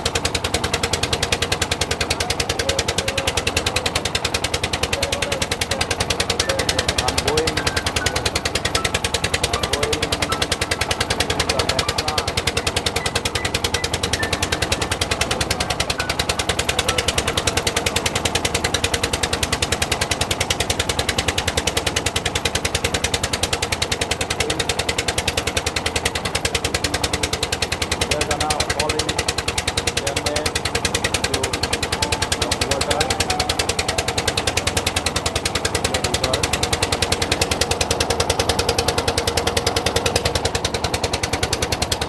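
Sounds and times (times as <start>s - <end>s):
boat engine chugging: 0.0s - 42.0s.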